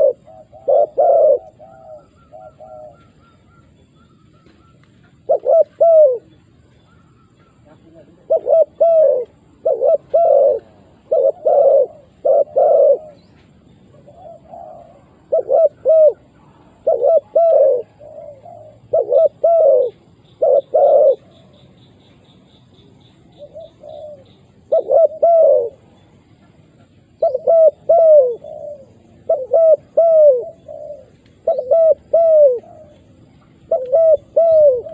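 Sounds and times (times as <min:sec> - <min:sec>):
doves cooing: 0:00.0 - 0:22.5, 0:23.1 - 0:34.9.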